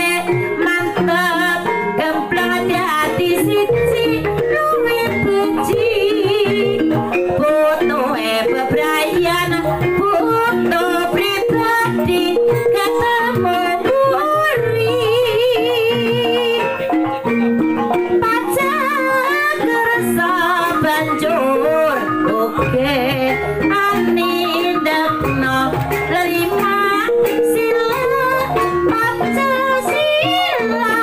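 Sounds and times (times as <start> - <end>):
hand drum: 0.0 - 31.0.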